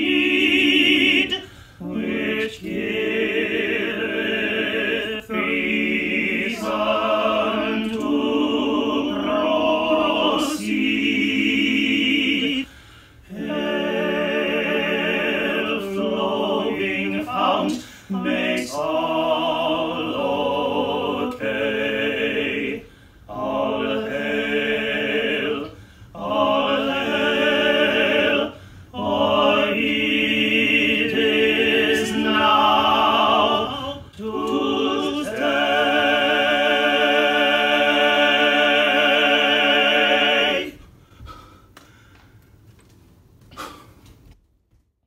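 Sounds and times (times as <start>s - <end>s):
operatic tenor singing: 0.0s - 12.7s, 13.3s - 40.8s.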